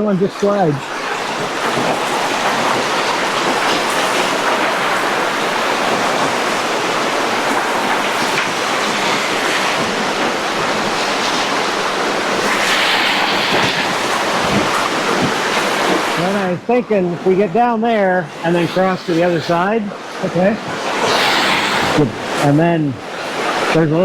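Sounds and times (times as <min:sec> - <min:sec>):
river water rushing over rocks: 0:00.0 - 0:16.5, 0:18.2 - 0:24.0.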